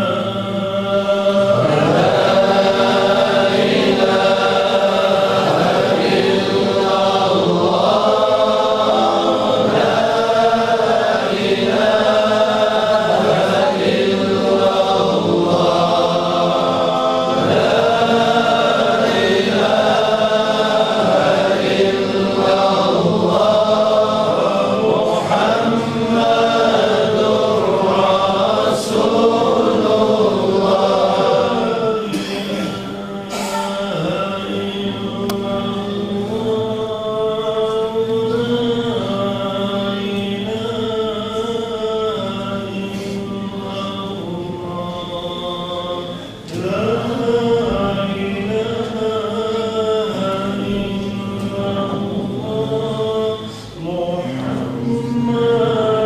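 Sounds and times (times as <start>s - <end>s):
men chanting in unison: 0.0s - 56.0s.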